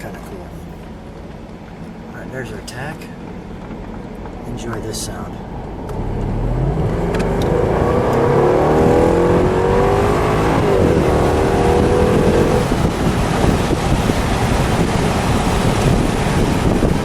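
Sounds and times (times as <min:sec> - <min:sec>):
car engine accelerating: 0:00.0 - 0:17.0
gear change: 0:00.0 - 0:17.0
wind and road noise: 0:00.0 - 0:17.0.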